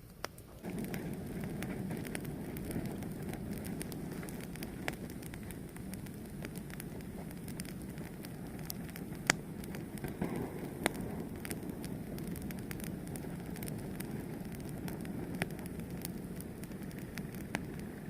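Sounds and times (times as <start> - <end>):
fire burning with low rush: 0.0 - 18.0
fire crackles and pops: 0.0 - 18.0.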